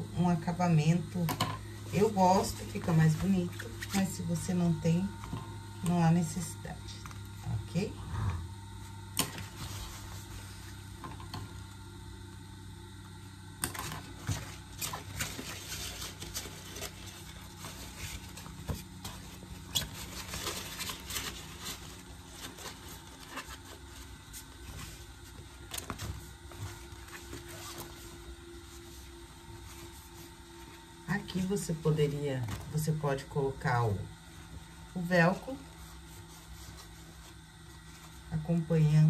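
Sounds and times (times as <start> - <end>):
faint steady hum: 0.0 - 39.0
fabric rustling and crinkling: 0.2 - 7.9, 8.7 - 11.8, 13.7 - 39.0.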